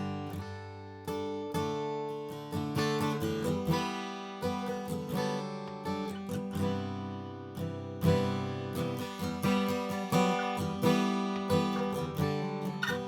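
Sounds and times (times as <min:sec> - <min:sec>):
acoustic guitar picked: 0:00.0 - 0:13.0.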